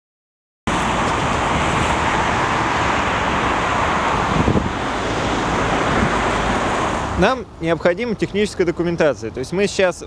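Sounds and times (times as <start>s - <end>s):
low traffic rumble: 0.7s - 10.0s
passing cars: 0.7s - 10.0s.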